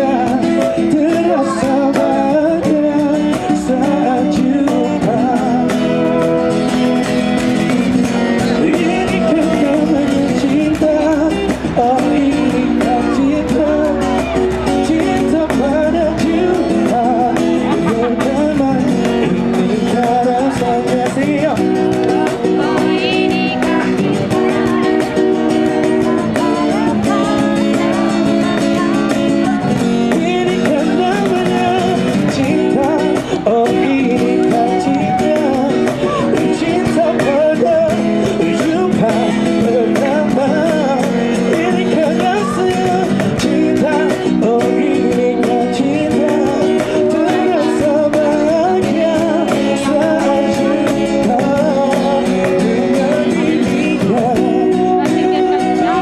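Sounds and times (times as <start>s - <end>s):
guitar chords: 0.0s - 56.0s
person singing melody: 0.0s - 56.0s.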